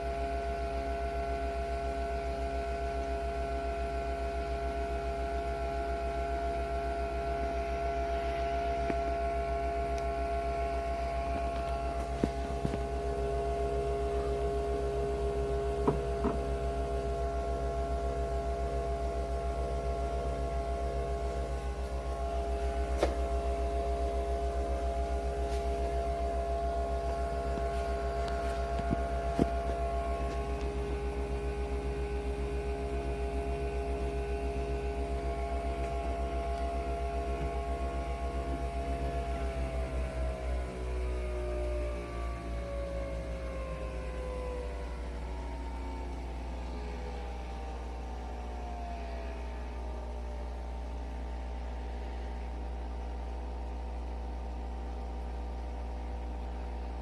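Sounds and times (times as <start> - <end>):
machine hum with pulsing throb: 0.0 - 57.0.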